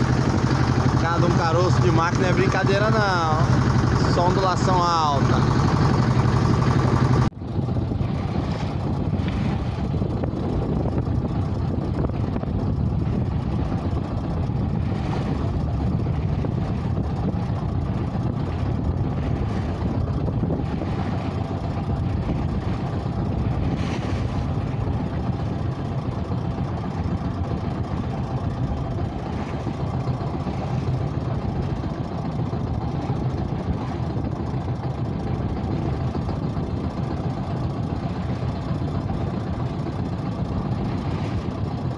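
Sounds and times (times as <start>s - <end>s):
boat engine running: 0.0s - 41.9s
water rushing along hull: 0.0s - 41.9s.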